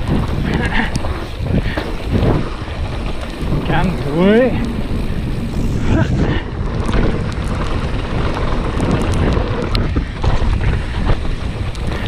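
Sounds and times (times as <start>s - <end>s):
bike rattling over rough trail: 0.0s - 12.0s
wind buffeting microphone: 0.0s - 12.0s.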